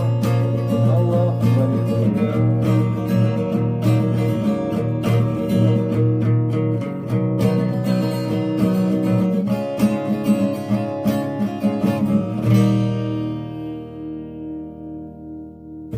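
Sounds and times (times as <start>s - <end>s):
acoustic guitar playing: 0.0s - 15.9s.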